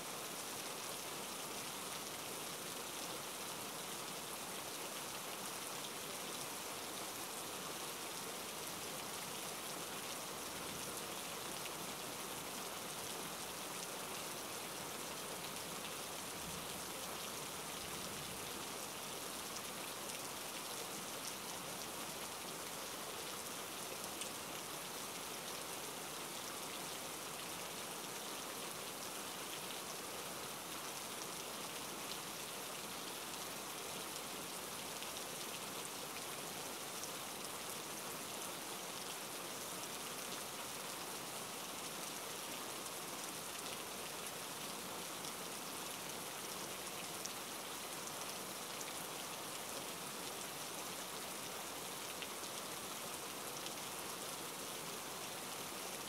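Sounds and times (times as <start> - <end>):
rain pattering on surfaces and water: 0.1 - 56.0.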